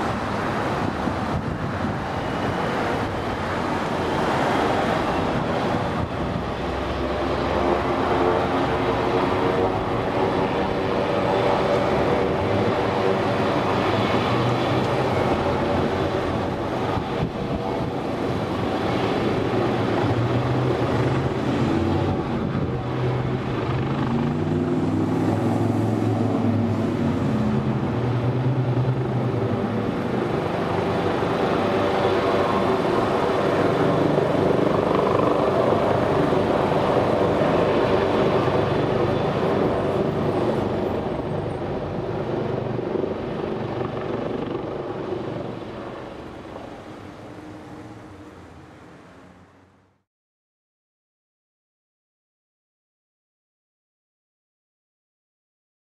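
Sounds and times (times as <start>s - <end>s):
helicopter turbine and rotor: 0.0s - 49.5s.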